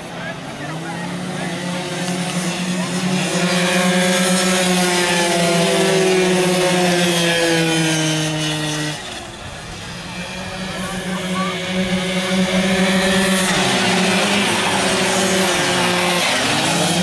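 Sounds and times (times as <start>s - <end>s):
scooter engines at high revs: 0.0s - 17.0s.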